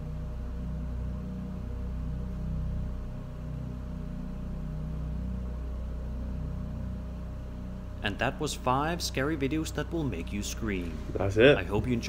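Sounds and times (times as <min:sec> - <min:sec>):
faint hum: 0:00.0 - 0:12.0
low rumbling drone: 0:00.0 - 0:12.0.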